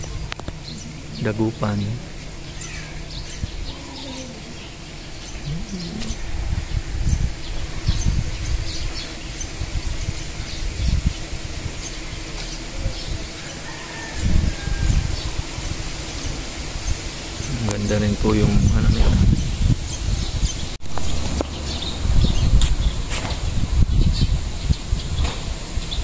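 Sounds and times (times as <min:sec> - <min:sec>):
low rumbling bursts: 0:00.0 - 0:26.0
small birds chirping: 0:00.0 - 0:26.0.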